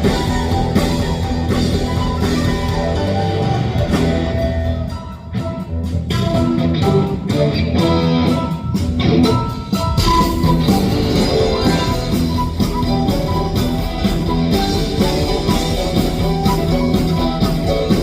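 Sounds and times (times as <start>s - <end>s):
bass guitar: 0.0s - 18.0s
drum kit beat: 0.0s - 18.0s
electric guitar: 0.0s - 18.0s.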